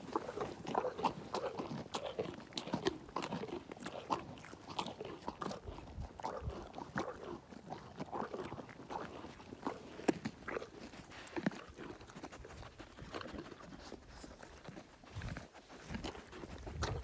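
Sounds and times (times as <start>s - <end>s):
pony crunching carrots: 0.0s - 17.0s.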